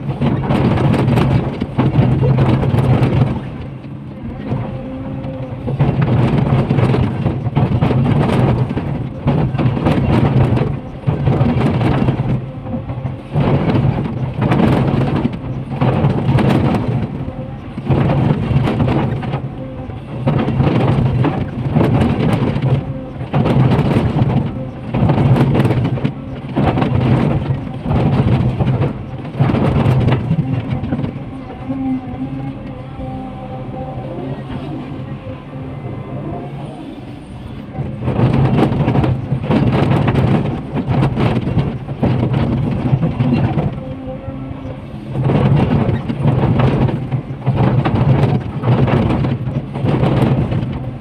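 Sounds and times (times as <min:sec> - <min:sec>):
excavator diesel engine under load: 0:00.0 - 0:51.0.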